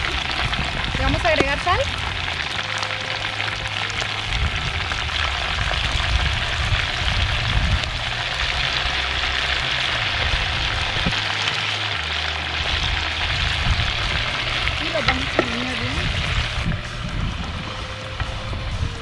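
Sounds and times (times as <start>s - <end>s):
low uneven rumble: 0.0s - 19.0s
pork skins sizzling in lard: 0.0s - 19.0s.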